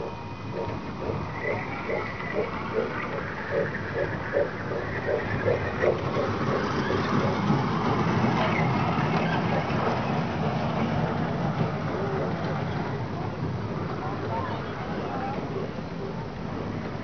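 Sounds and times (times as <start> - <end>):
rhythmic pulsing: 0.0 - 16.9
amusement train motor humming: 0.0 - 17.0.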